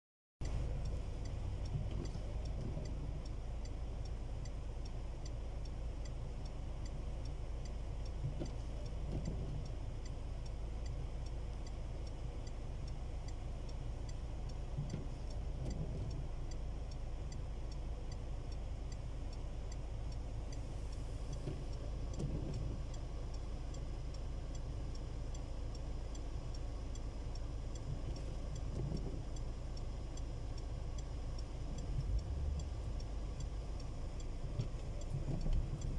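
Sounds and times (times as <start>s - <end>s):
car engine idling: 0.4s - 35.9s
light ticking: 0.4s - 35.9s.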